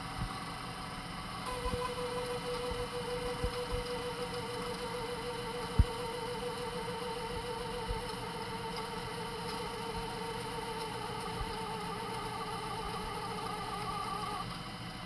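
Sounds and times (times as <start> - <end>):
tape transport whirring: 0.0 - 14.6.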